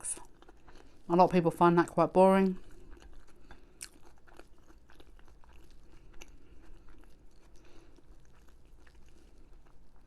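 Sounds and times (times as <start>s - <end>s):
person chewing food: 0.0s - 1.3s, 2.4s - 10.0s.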